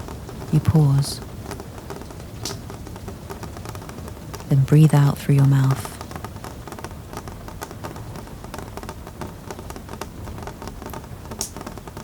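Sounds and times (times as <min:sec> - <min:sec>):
rain on hard surface: 0:00.0 - 0:12.0.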